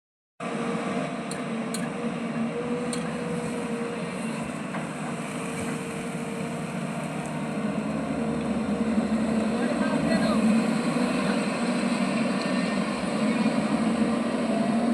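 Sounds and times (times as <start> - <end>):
diesel engine running: 0.4 - 14.9.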